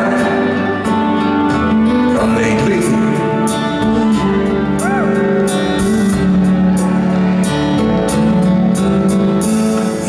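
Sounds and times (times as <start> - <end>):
live band playing a slow ballad: 0.0 - 10.0.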